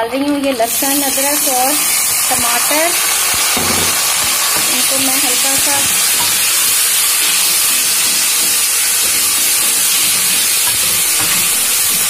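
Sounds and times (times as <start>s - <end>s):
vegetables sizzling in hot oil: 0.5s - 12.0s.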